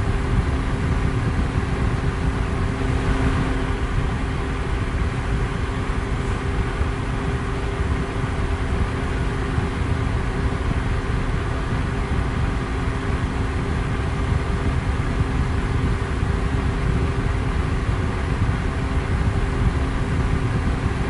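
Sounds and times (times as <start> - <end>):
electric fan air rush: 0.0 - 21.0
faint motor hum: 0.0 - 21.0.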